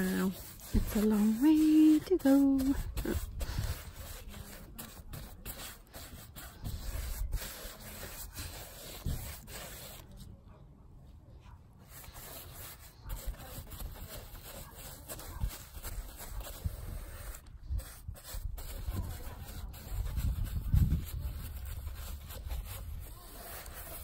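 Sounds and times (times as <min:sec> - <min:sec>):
paintbrush brushing on wood: 0:00.0 - 0:10.4, 0:11.4 - 0:24.0.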